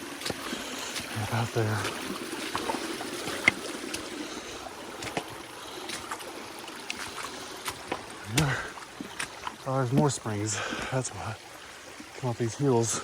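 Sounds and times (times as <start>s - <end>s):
creek trickling over rocks: 0.0s - 13.0s.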